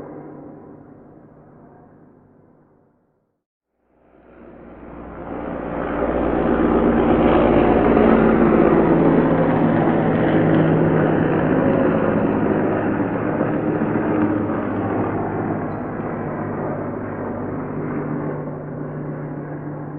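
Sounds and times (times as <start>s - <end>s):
helicopter drone: 0.0s - 2.9s, 3.8s - 19.9s.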